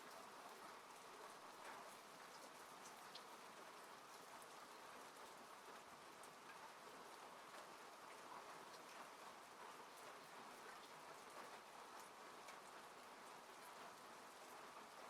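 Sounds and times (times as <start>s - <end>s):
rain falling on a car: 0.0s - 15.0s.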